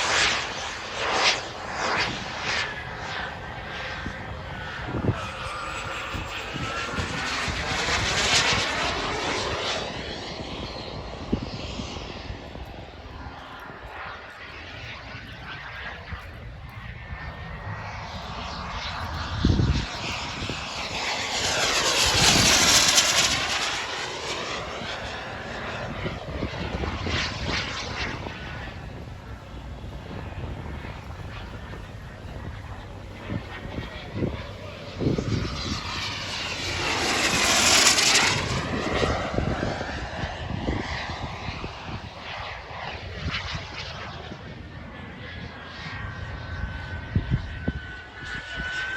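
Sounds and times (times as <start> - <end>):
jet engine flying past: 0.0 - 48.9.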